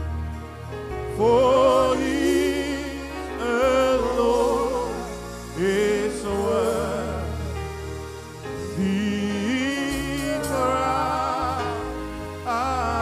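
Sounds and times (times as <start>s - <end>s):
sustained instrumental chords: 0.0s - 13.0s
person singing with vibrato: 1.1s - 7.8s, 8.4s - 13.0s.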